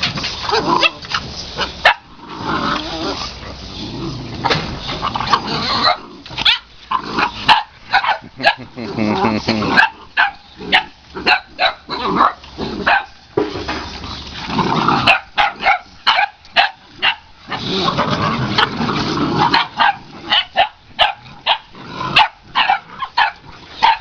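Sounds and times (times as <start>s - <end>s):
puppies barking: 0.4s - 2.2s, 4.3s - 13.4s, 14.2s - 24.0s.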